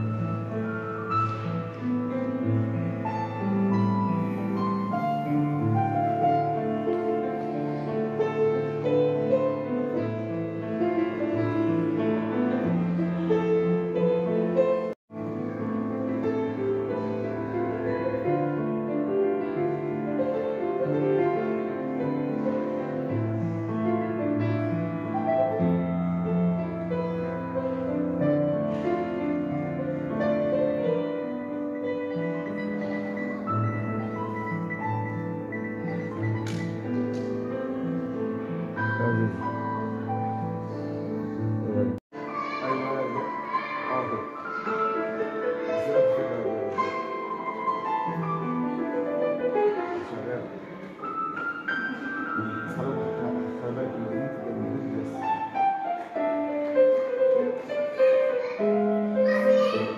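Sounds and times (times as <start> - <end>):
grand piano playing chords: 0.0 - 59.9.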